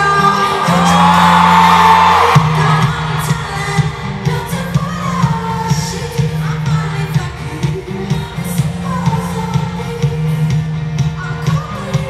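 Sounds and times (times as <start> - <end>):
crowd noise: 0.0 - 12.0
live pop band over loudspeakers: 0.0 - 12.0.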